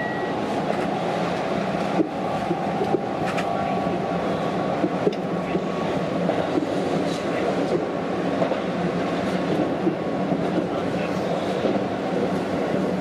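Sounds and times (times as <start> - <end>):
electric train rolling rumble: 0.0 - 13.0.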